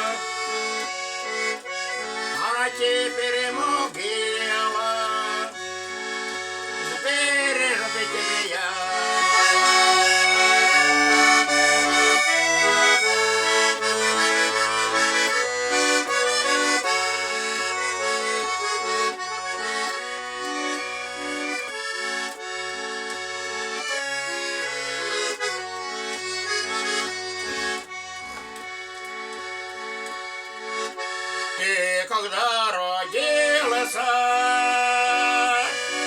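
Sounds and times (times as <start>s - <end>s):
accordion playing: 0.0s - 36.0s.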